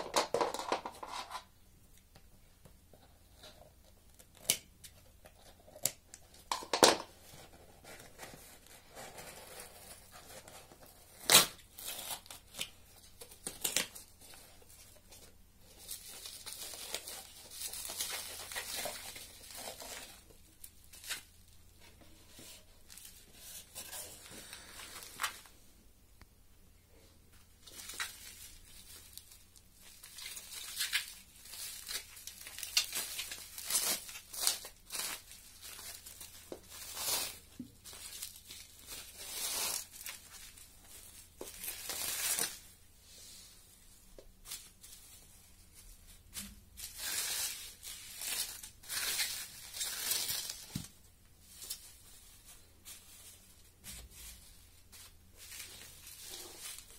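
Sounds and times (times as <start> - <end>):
bubble wrap crinkling: 3.2 - 25.6, 27.3 - 42.9, 43.9 - 56.9.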